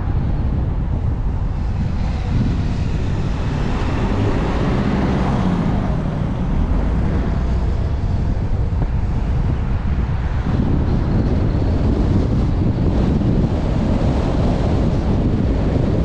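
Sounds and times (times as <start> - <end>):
wind buffeting microphone: 0.0 - 16.0
engine passing by: 1.5 - 16.0.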